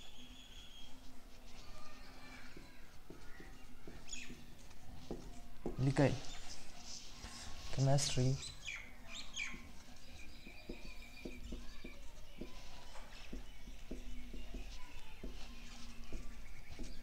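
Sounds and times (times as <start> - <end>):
marker writing on a whiteboard: 0.1 - 17.0.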